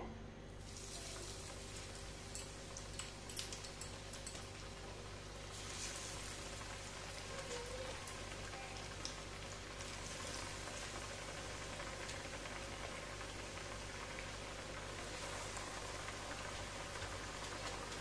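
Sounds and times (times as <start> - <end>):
hot oil sizzling: 0.6 - 18.0.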